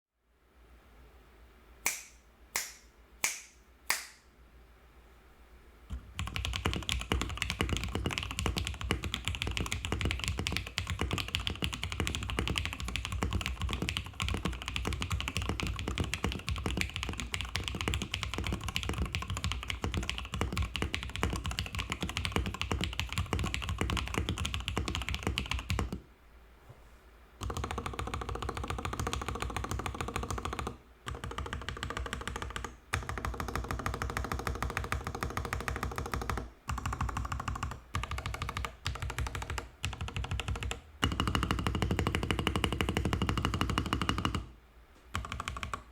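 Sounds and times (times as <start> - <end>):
mechanical keyboard typing: 5.9 - 26.0, 27.4 - 44.5, 45.1 - 45.9.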